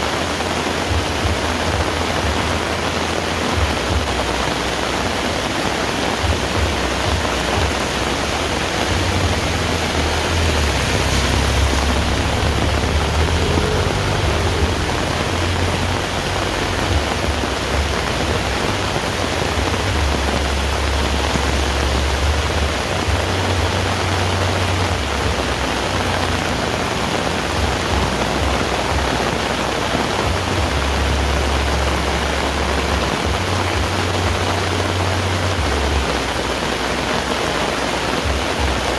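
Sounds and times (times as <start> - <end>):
heavy rain falling: 0.0 - 38.9
low rumble: 0.6 - 37.0.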